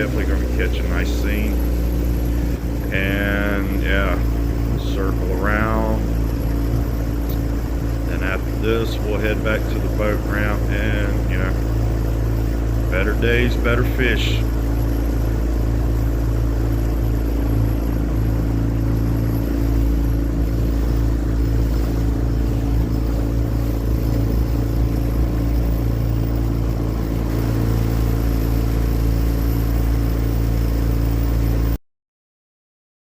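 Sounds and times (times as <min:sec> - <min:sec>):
outboard boat motor running: 0:00.0 - 0:31.8.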